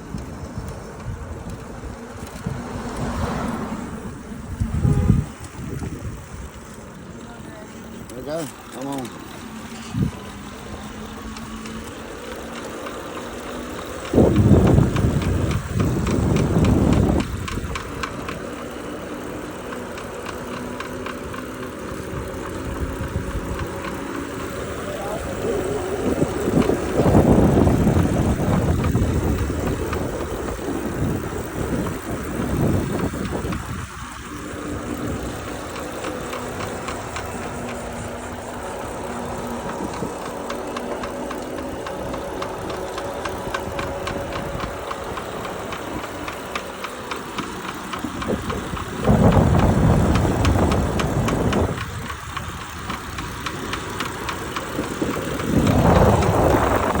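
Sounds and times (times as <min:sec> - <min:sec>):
wind rumbling on microphone: 0:00.0 - 0:07.2, 0:09.8 - 0:12.4, 0:13.5 - 0:19.2, 0:20.4 - 0:57.0
electric motor hum: 0:00.0 - 0:57.0
electric trike ticking: 0:00.0 - 0:57.0.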